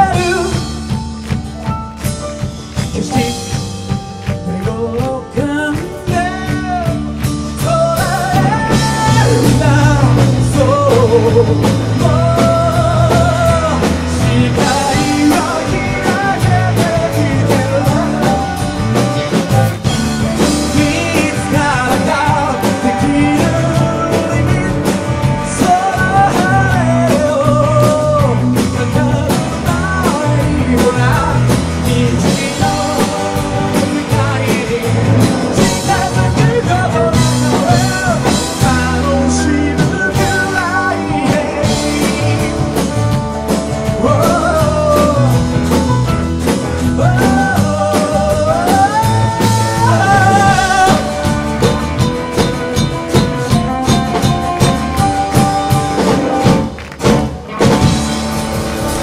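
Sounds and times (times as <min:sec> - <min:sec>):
man singing with vibrato: 0:00.0 - 0:01.3, 0:02.8 - 0:56.5
drums: 0:00.0 - 0:59.0
electric bass: 0:00.0 - 0:59.0
electric guitar: 0:00.0 - 0:59.0.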